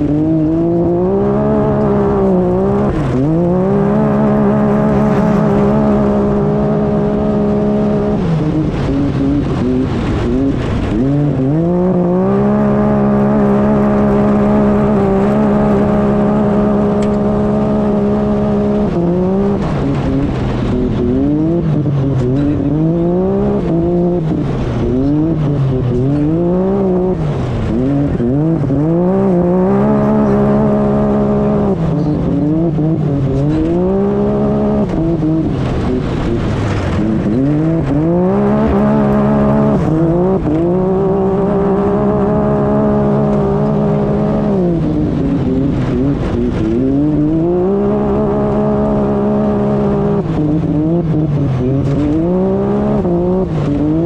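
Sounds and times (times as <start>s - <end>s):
utility vehicle engine revving: 0.0s - 54.0s.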